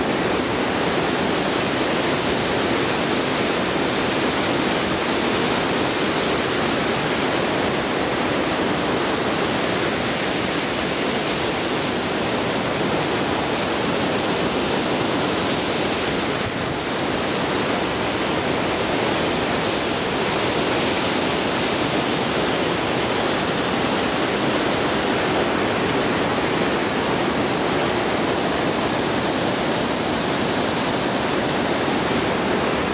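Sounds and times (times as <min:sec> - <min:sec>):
waterfall roaring: 0:00.0 - 0:32.9.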